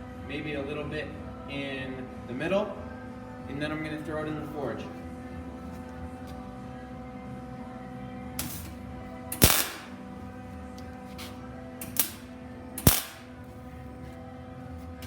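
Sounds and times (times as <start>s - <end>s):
background music: 0.5s - 14.8s.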